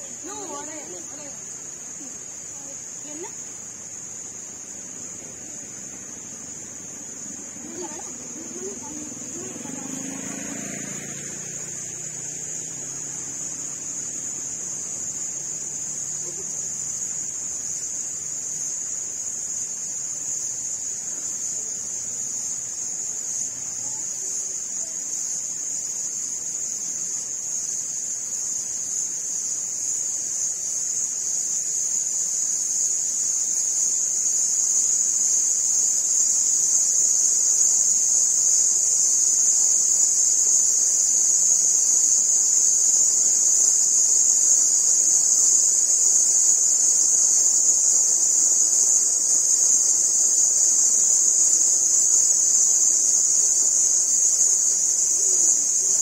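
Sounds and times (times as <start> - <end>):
high-pitched insect buzz: 0.0 - 56.0.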